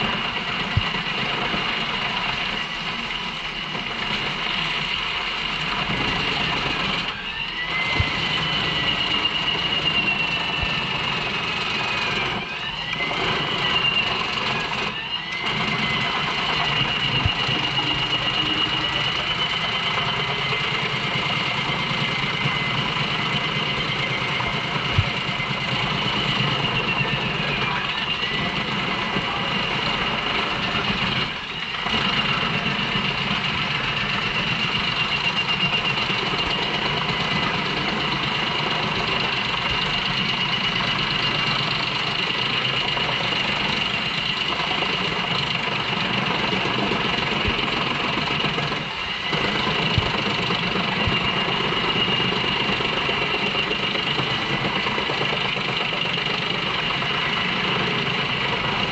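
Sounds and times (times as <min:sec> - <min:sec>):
wood chipper running: 0:00.0 - 0:58.9.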